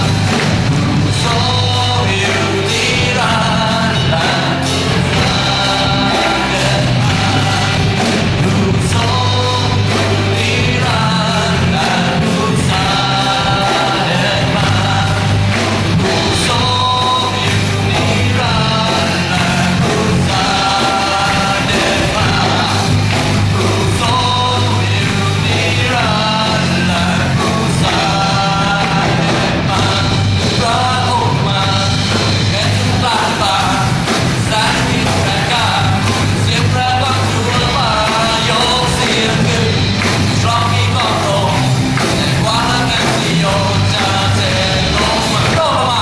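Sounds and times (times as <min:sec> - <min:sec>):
bass guitar: 0:00.0 - 0:46.0
drum kit: 0:00.0 - 0:46.0
electric guitars: 0:00.0 - 0:46.0
person singing: 0:00.0 - 0:46.0.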